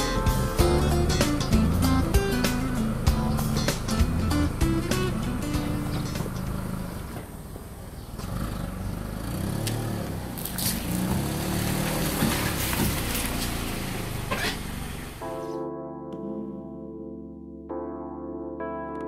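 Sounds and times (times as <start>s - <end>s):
car engine idling: 0.0s - 15.3s.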